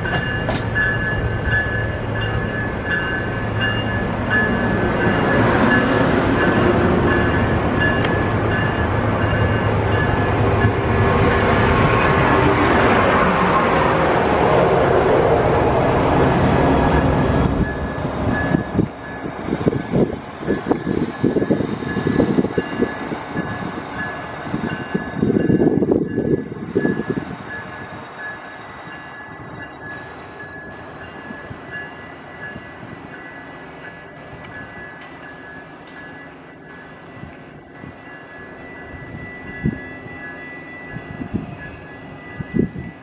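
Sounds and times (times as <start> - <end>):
train wheels rumbling: 0.0 - 43.0.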